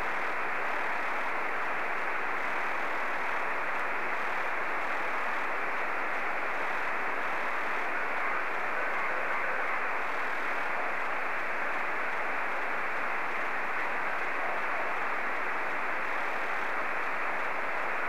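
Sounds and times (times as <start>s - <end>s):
radio receiver hiss: 0.0s - 18.0s.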